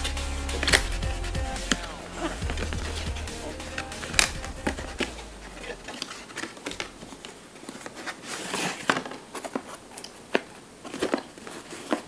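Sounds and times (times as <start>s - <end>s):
packaging rustling: 1.7s - 12.0s.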